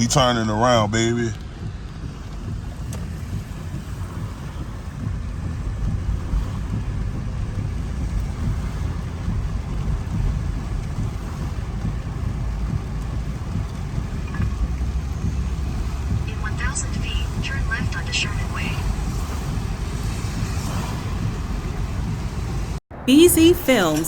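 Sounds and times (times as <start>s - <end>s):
water washing under car: 0.0s - 22.8s
car engine and tyre noise: 0.0s - 23.9s.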